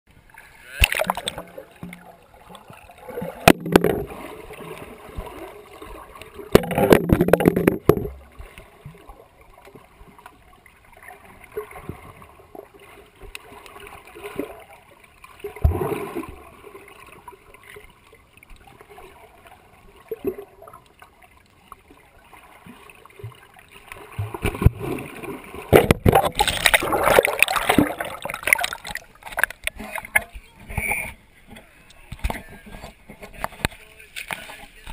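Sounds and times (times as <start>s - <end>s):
water splashing: 0.2s - 34.9s.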